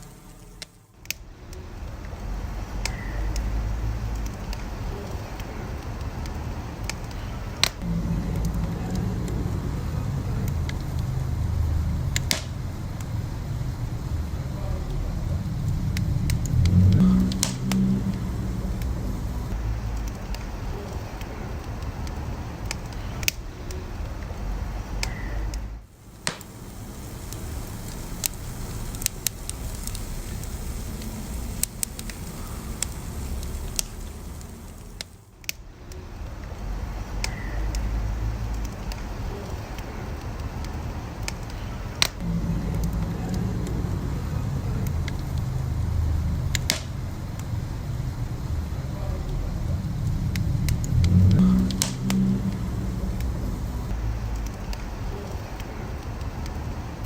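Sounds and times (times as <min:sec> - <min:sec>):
fire crackling and popping: 0:00.0 - 0:57.0
wood fire rumbling: 0:00.0 - 0:57.0.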